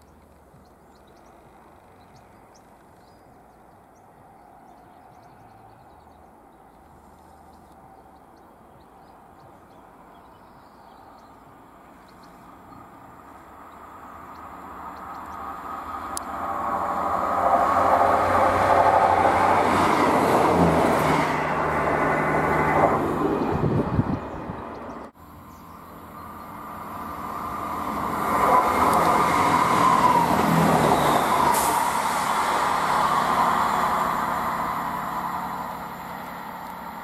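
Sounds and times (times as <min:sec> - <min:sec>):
diesel trains passing: 0:04.2 - 0:37.0.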